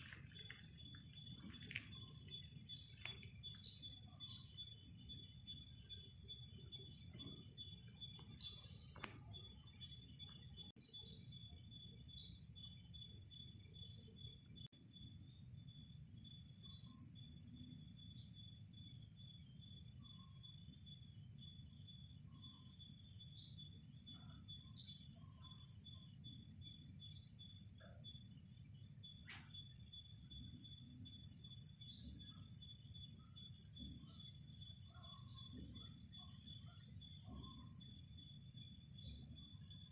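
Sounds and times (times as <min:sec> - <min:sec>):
faint chirps: 0:00.0 - 0:15.4, 0:16.1 - 0:39.9
pulsing cricket trill: 0:00.0 - 0:39.9.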